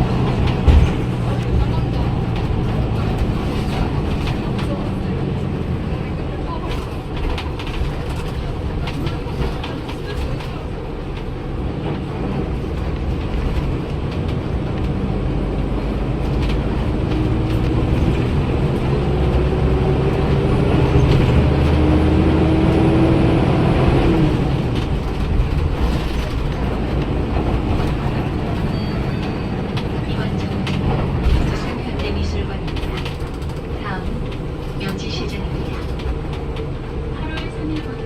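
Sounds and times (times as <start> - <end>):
bus diesel engine with whine: 0.0 - 38.0.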